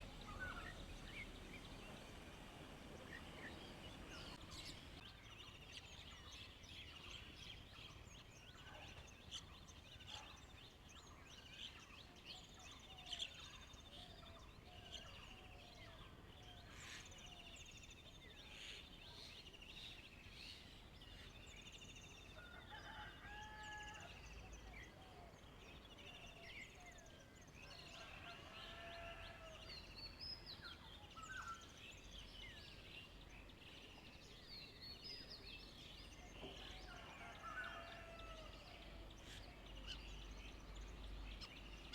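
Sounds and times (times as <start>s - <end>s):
wild birds chirping and trilling: 0.0s - 41.9s.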